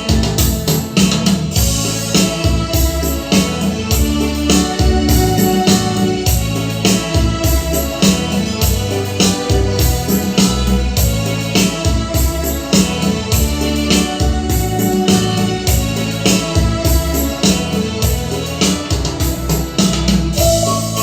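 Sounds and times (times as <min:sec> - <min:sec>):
music with steady beat: 0:00.0 - 0:21.0.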